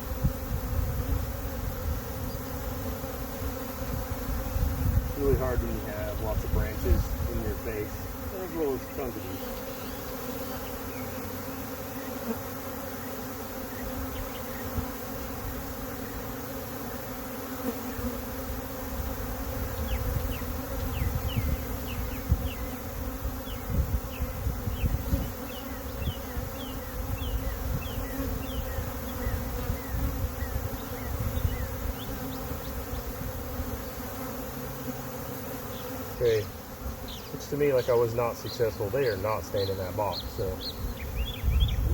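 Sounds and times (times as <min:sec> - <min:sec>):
bee swarm buzzing: 0:00.0 - 0:41.9.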